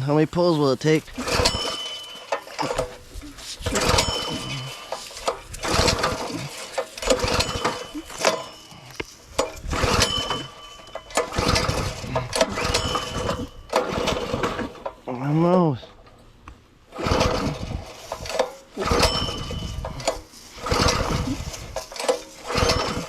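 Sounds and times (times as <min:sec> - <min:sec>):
recoil starter yanks: 0:00.8 - 0:16.2, 0:16.9 - 0:23.0
small gas engine turning over: 0:01.0 - 0:15.0, 0:16.9 - 0:23.0.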